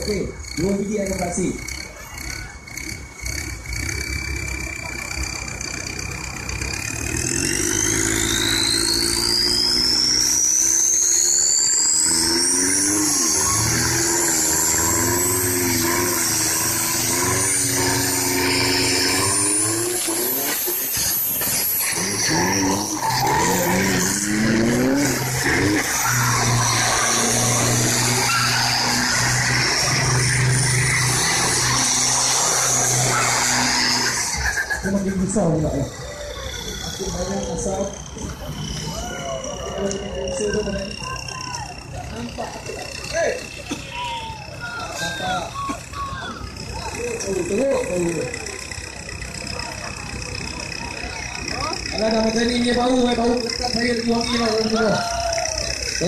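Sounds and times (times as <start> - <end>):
engines revving: 0.0 - 56.0
high whine rising in pitch: 0.0 - 56.0
tyres screeching: 0.0 - 56.0.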